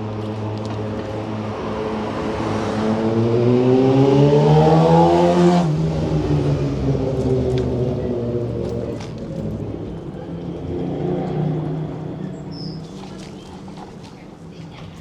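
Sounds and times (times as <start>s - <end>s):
street traffic hum: 0.0s - 15.0s
vehicle engine accelerating: 0.1s - 14.0s.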